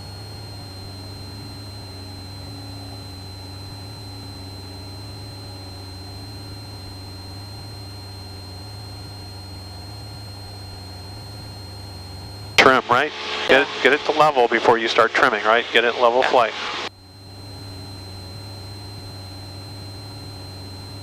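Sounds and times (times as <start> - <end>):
airplane engine and propeller drone: 0.0 - 21.0
thin high whine: 0.0 - 21.0.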